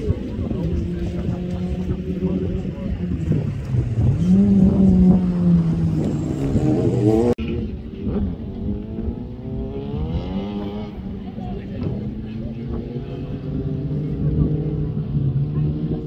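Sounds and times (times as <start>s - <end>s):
rally car engines revving: 0.0s - 16.0s.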